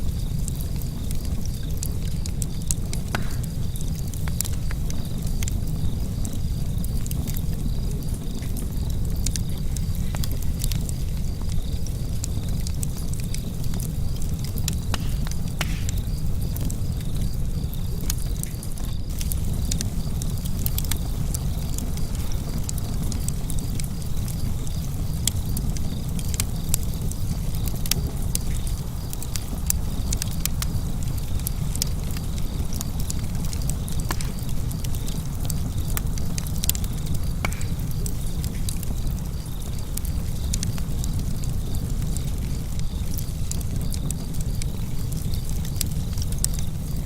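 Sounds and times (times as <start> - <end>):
fireplace fire crackling: 0.0 - 47.0.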